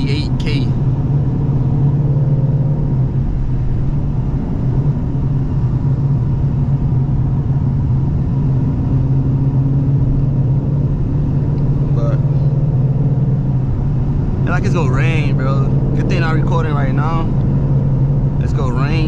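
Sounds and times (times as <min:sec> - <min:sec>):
car exhaust drone: 0:00.0 - 0:19.0
road noise: 0:00.0 - 0:19.0.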